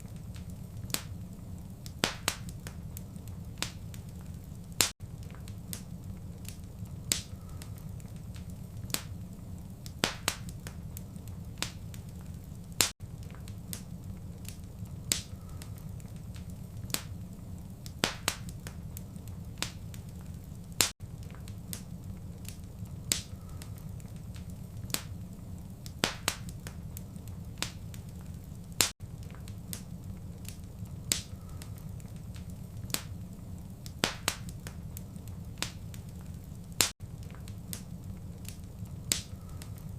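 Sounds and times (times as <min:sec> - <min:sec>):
fire crackling and popping: 0:00.0 - 0:39.9
fire low rumble: 0:00.0 - 0:39.9.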